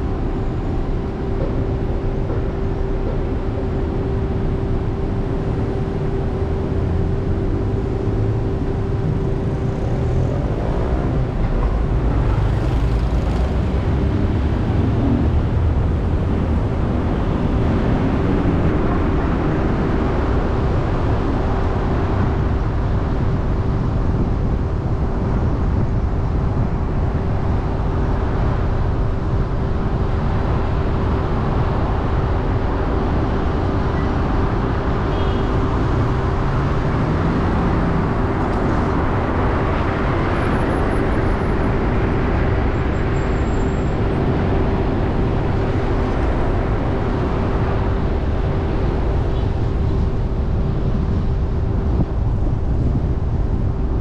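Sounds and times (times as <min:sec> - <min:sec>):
steady hum: 0:00.0 - 0:54.0
tyre and road noise: 0:00.0 - 0:54.0.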